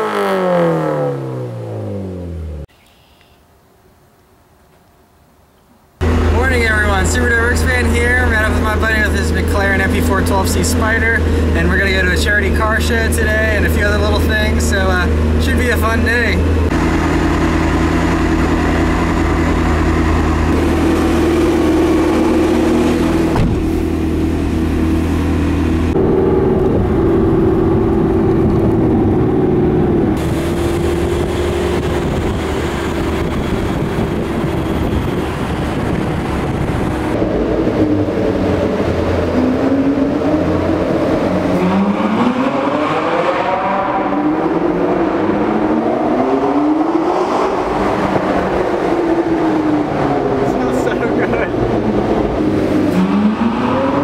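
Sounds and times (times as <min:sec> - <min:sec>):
car engine revving: 0:00.0 - 0:02.7, 0:06.0 - 0:54.0.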